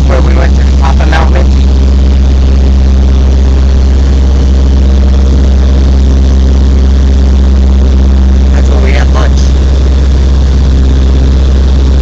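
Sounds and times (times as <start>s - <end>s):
light aircraft engine and propeller drone: 0.0s - 12.0s.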